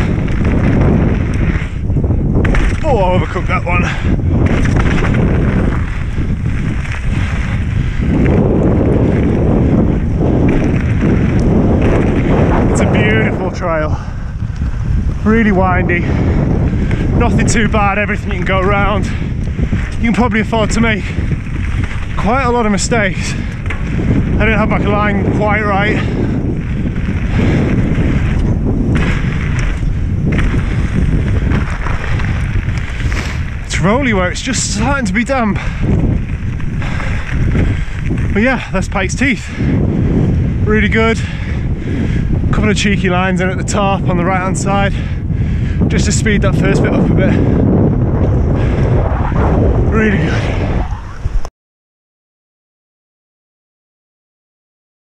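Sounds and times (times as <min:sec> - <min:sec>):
bike tyres rumbling on gravel: 0:00.0 - 0:51.5
wind buffeting microphone: 0:00.0 - 0:51.5.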